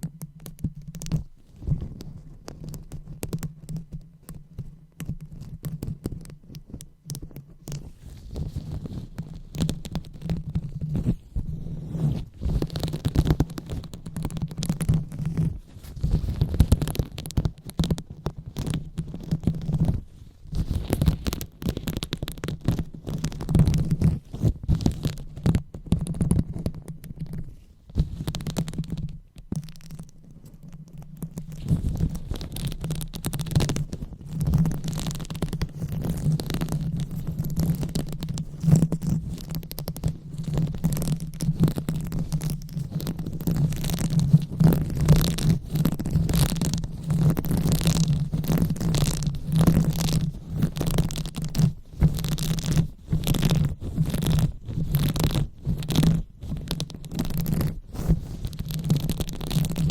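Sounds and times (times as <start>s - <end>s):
fingers scratching on microphone: 0.0s - 59.9s.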